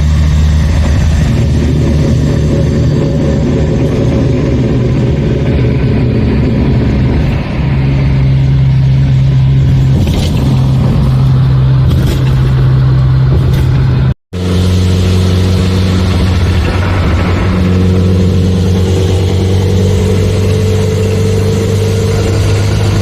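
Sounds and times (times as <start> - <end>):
car engine drone while driving: 0.0 - 23.0.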